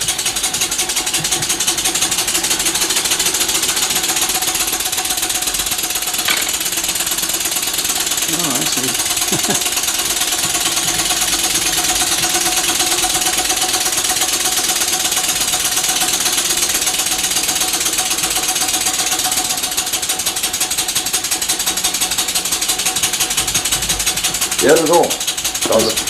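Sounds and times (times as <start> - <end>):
model steam engine clattering: 0.0 - 26.0.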